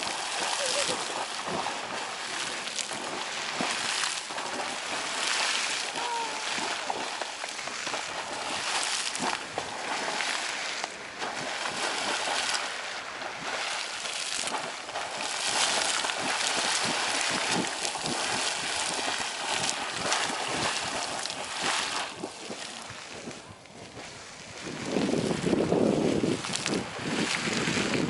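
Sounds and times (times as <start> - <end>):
geyser water splashing and churning: 0.0 - 28.0.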